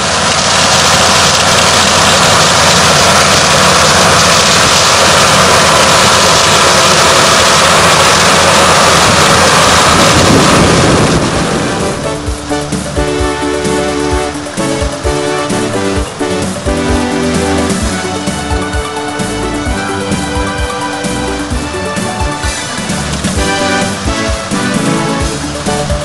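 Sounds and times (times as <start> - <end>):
harvester engine running: 0.0 - 26.0
rush of machinery noise: 0.0 - 26.0.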